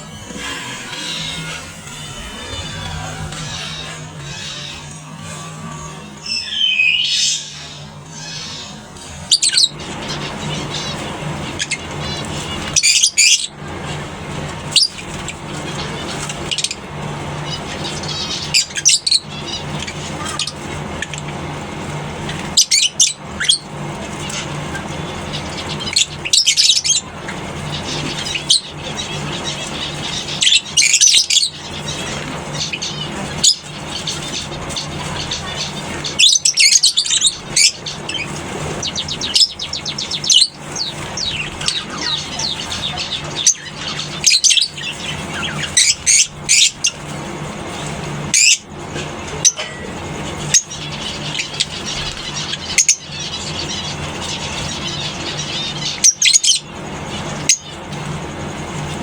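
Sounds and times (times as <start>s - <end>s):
lovebirds chirping: 0.0s - 59.0s
steady low hum: 0.0s - 59.0s.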